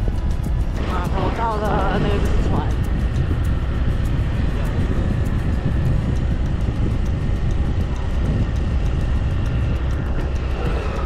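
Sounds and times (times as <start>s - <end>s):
road noise: 0.0s - 11.0s
scooter engine: 0.0s - 11.0s
wind rumble on microphone: 0.0s - 11.0s.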